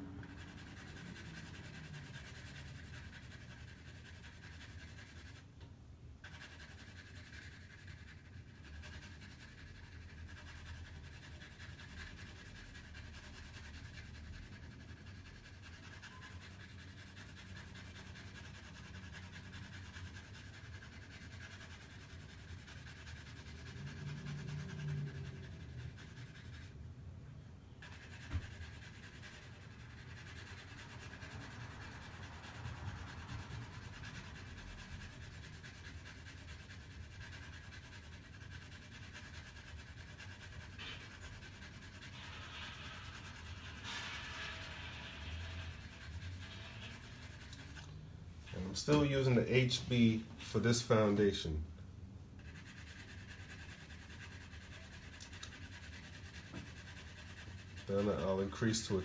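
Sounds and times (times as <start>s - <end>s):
pencil scratching on paper: 0.0s - 5.5s, 6.2s - 26.8s, 27.8s - 51.6s, 52.4s - 59.0s.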